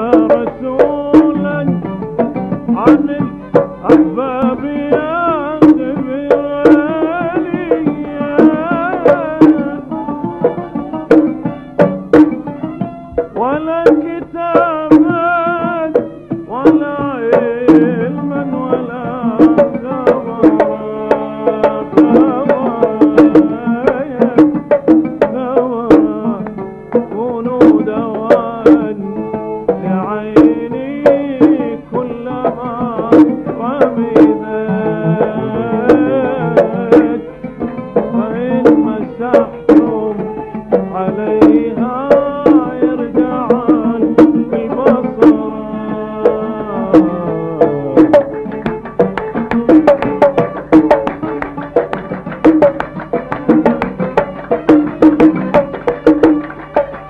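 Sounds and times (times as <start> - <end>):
hand drums beating: 0.0 - 57.0
oud melody: 0.0 - 57.0.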